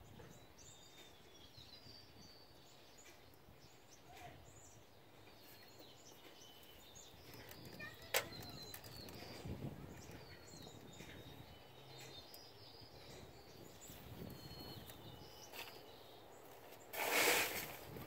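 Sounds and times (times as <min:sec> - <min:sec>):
outdoor background noise: 0:00.0 - 0:18.0
small birds chirping: 0:00.0 - 0:18.0.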